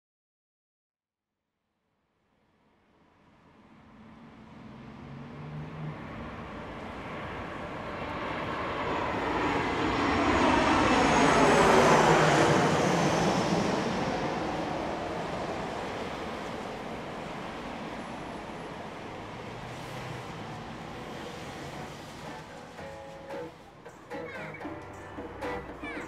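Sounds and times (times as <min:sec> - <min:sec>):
airplane passing overhead: 0:03.3 - 0:26.0.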